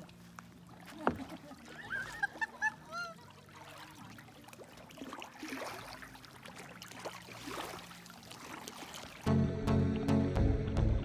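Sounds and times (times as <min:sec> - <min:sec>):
paddle splashing in water: 0:00.0 - 0:09.3.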